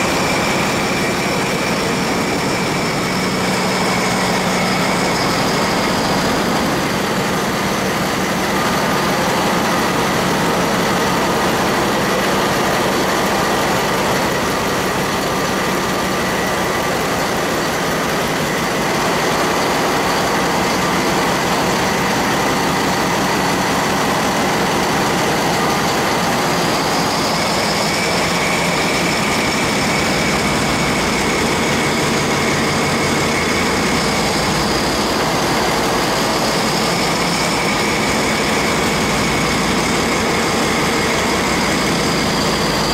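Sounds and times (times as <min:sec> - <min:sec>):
diesel engine din: 0:00.0 - 0:42.9
high engine whine: 0:00.0 - 0:42.9.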